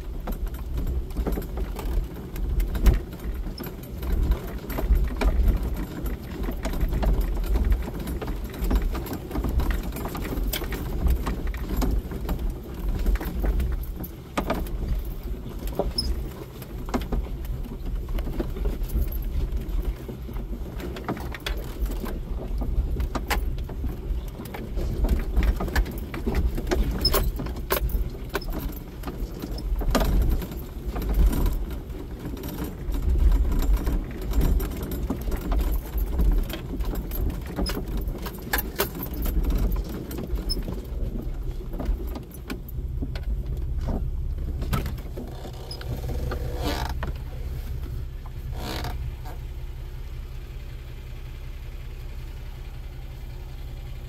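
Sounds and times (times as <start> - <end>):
sharp clicks and rattling: 0.0 - 49.5
engine hum: 0.0 - 54.0.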